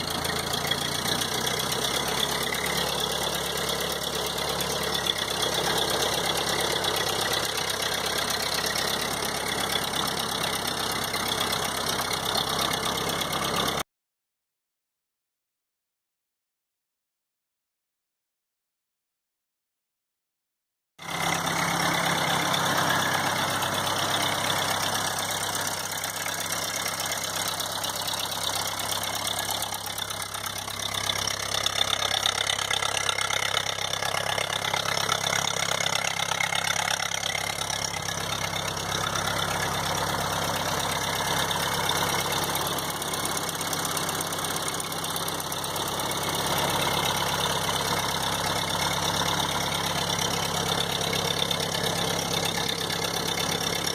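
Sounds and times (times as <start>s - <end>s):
tractor engine idling: 0.0s - 13.8s, 21.0s - 53.9s.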